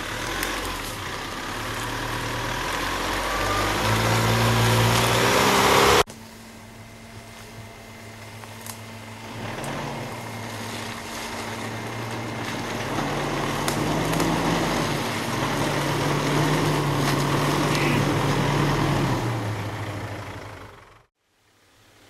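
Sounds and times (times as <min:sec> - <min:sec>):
off-road vehicle engine: 0:00.0 - 0:21.2.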